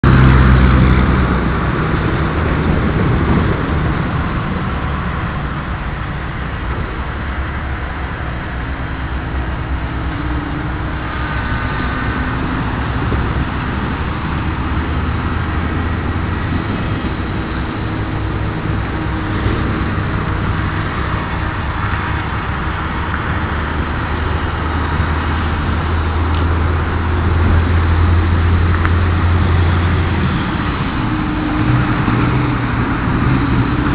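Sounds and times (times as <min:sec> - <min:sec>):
airboat engine droning: 0:00.0 - 0:33.9.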